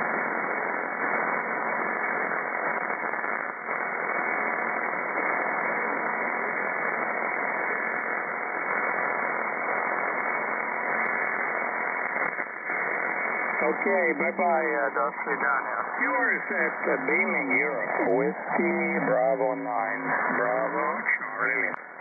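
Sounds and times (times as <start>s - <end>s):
shortwave radio hiss: 0.0s - 22.0s.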